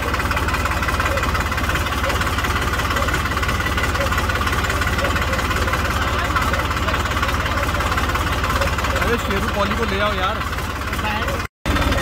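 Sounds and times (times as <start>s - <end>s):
vehicle engine running at low speed: 0.0s - 12.0s.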